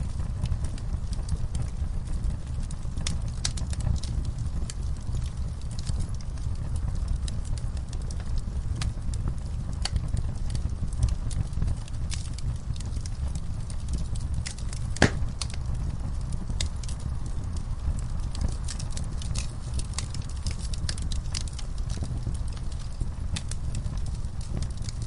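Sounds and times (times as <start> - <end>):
bonfire crackling: 0.0 - 25.0
fire popping and snapping: 0.0 - 25.0.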